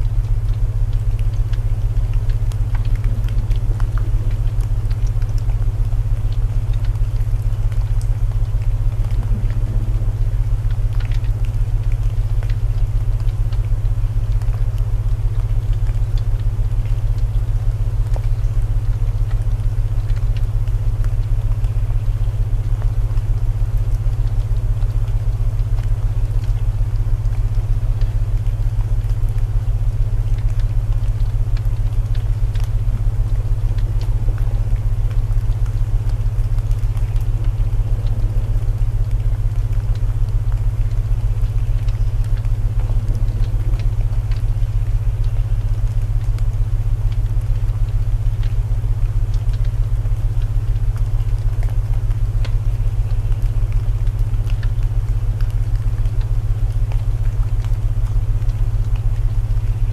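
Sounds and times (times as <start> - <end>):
soft rain: 0.0 - 59.9
wood fire crackling: 0.0 - 59.9.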